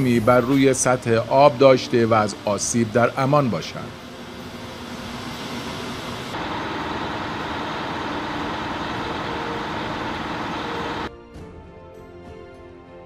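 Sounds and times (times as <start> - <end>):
jet engines droning: 0.0 - 11.1.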